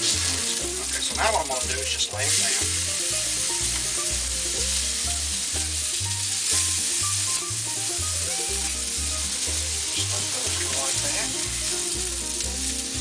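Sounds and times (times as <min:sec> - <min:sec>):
meat sizzling on griddle: 0:00.0 - 0:13.0.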